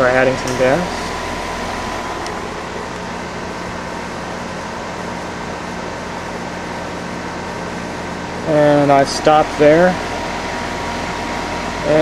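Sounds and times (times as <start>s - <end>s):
heat pump whirring: 0.0s - 12.0s.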